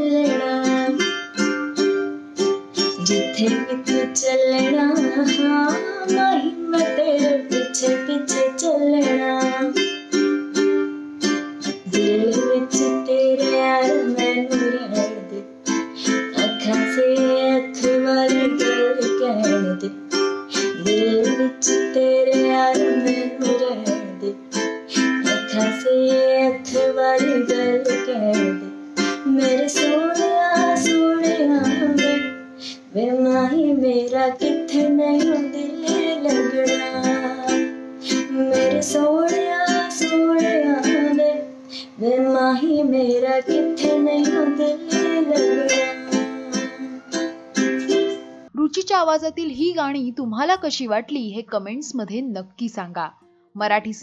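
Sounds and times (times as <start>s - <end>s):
woman singing: 0.0s - 1.6s, 2.7s - 10.0s, 11.6s - 48.0s
ukulele strumming: 0.0s - 51.1s.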